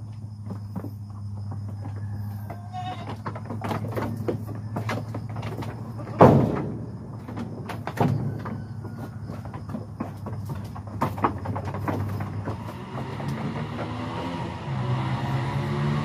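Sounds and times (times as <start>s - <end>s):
goats knocking against wooden pen: 0.4s - 14.8s.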